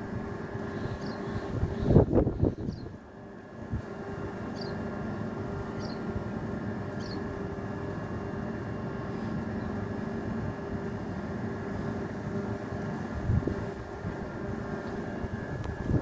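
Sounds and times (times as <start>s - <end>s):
mechanical motor hum: 0.0s - 16.0s.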